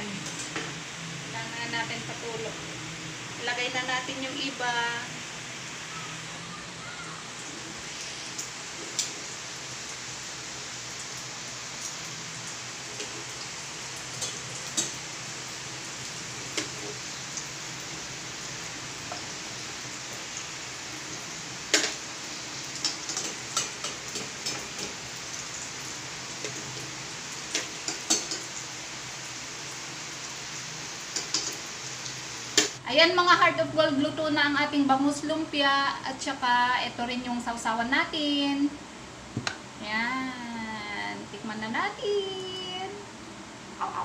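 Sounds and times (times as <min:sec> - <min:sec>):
food deep-frying in oil: 0:00.0 - 0:38.8.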